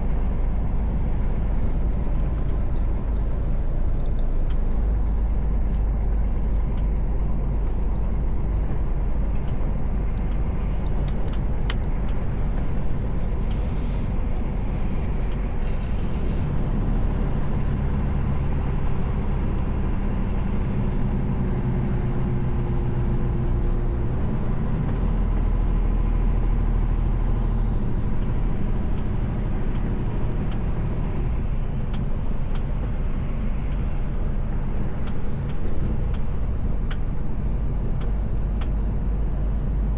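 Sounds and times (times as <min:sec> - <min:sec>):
road rumble: 0:00.0 - 0:39.9
truck diesel engine running: 0:00.0 - 0:39.9.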